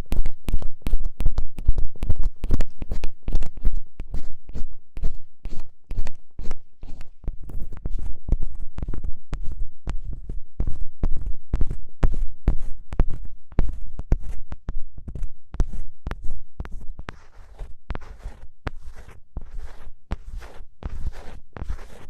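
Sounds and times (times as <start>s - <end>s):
ear pick scratching microphone: 0.0s - 22.0s.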